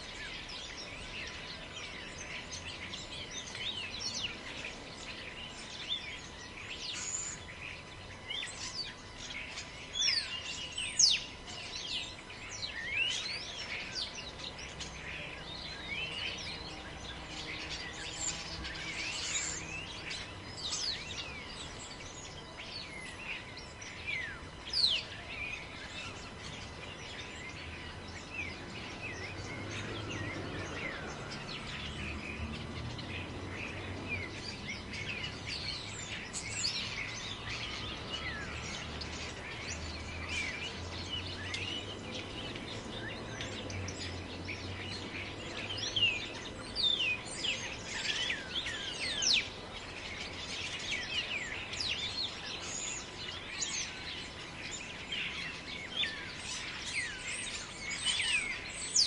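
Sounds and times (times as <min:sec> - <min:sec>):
small birds chirping: 0:00.0 - 0:59.0
wind in the trees: 0:00.0 - 0:59.0.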